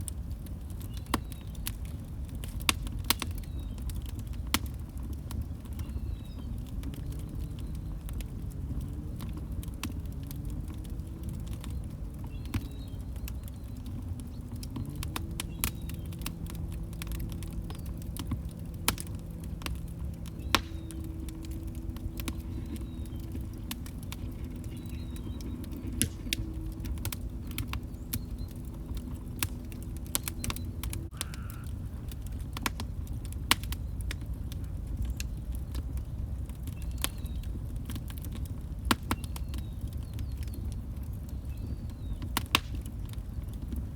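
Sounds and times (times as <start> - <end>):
log fire crackling: 0.0 - 43.9.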